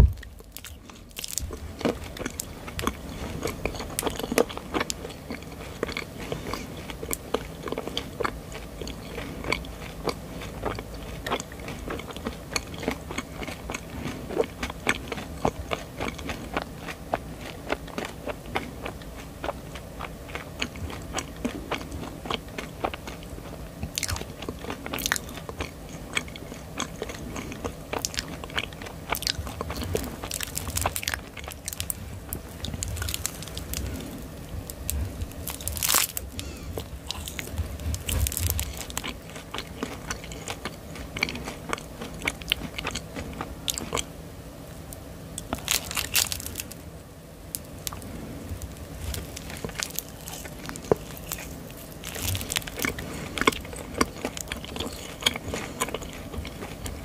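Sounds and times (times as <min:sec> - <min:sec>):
chewing marshmallow: 0:00.0 - 0:44.2, 0:44.8 - 0:46.9, 0:47.5 - 0:57.0.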